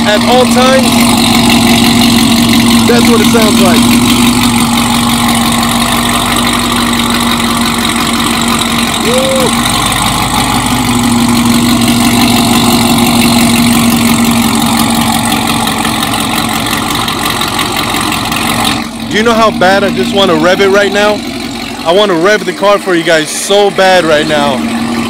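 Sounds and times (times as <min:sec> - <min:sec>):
car engine idling loudly: 0:00.0 - 0:25.0.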